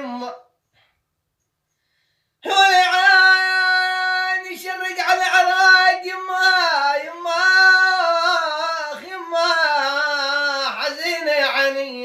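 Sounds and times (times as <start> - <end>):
man singing unaccompanied: 0.0 - 0.6, 2.4 - 12.0.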